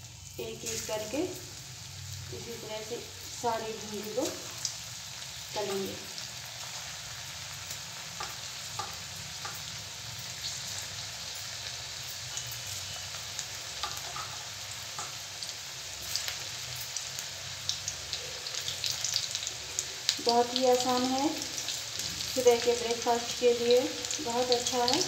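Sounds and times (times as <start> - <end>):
deep-frying sizzle with pops: 0.0 - 25.0.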